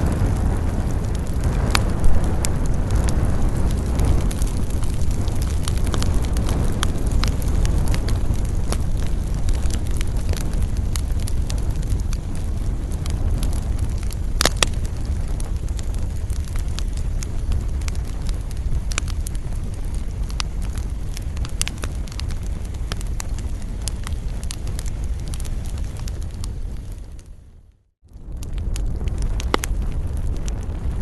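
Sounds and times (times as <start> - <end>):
fire crackling and popping: 0.0 - 31.0
low rumble: 0.0 - 31.0.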